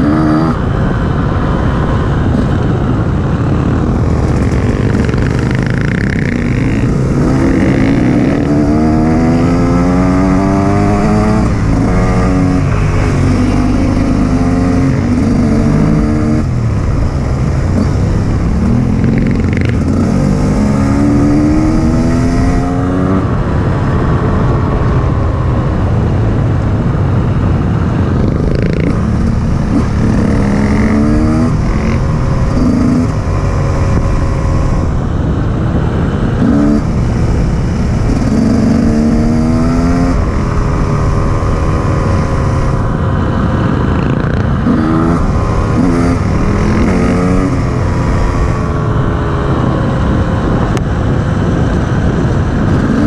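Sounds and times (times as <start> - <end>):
two-stroke motorcycle engine revving: 0.0 - 25.8, 28.0 - 53.0
wind and tyre rumble: 0.0 - 53.0.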